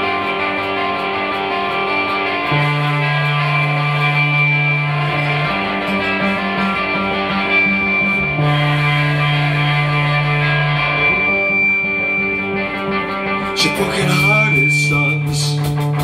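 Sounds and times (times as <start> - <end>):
electric guitar chords: 0.0 - 16.0
rock band playing punk intro: 0.0 - 16.0.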